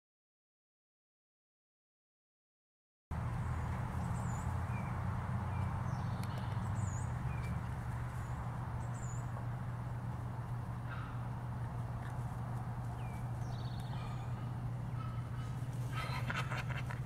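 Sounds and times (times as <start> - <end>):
low hum: 3.1 - 17.0.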